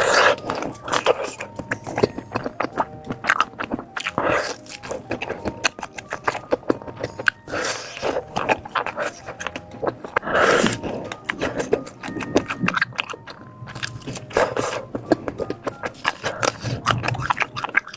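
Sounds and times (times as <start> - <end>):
biting and chewing: 0.0 - 17.9
wet mouth clicks: 0.0 - 17.9.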